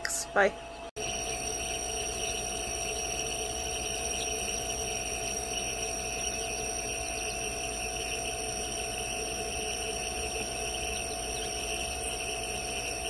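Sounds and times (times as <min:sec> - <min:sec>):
steady hum and hiss: 0:00.0 - 0:13.0
chicks peeping: 0:00.8 - 0:13.0.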